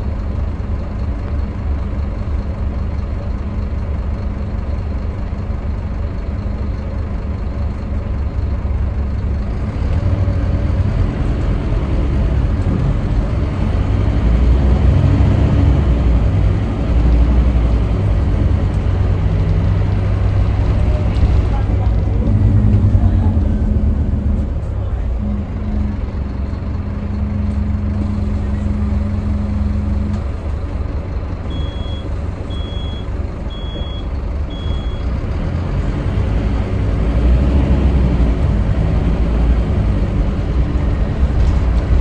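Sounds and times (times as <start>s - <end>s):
bus diesel engine running: 0.0s - 42.0s
road noise: 0.0s - 42.0s.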